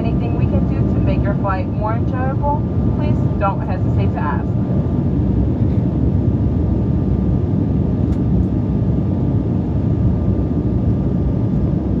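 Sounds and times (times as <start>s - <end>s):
faint steady whine: 0.0s - 12.0s
jet engine cabin rumble: 0.0s - 12.0s.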